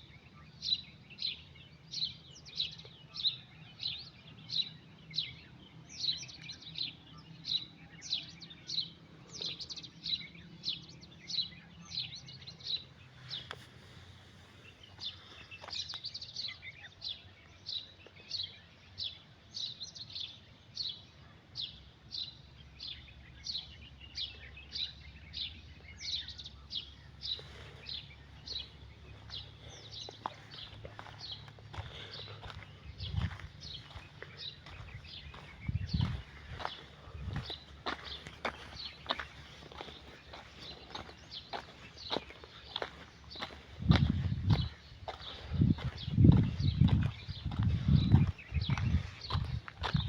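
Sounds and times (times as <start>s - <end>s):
bird chirping: 0.0s - 50.0s.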